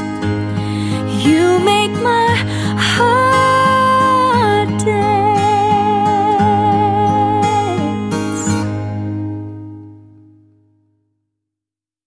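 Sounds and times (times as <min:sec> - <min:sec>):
pop ballad backing music: 0:00.0 - 0:09.8.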